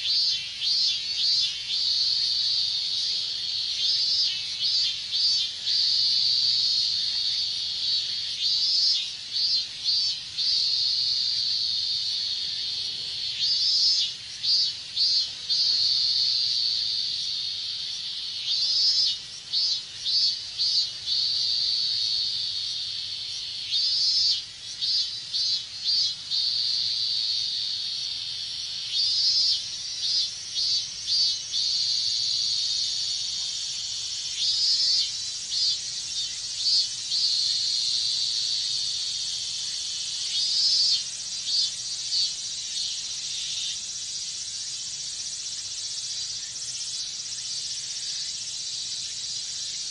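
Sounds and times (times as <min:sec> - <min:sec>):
cicada pulsing call: 0:00.0 - 0:49.9
cicadas droning: 0:00.0 - 0:49.9.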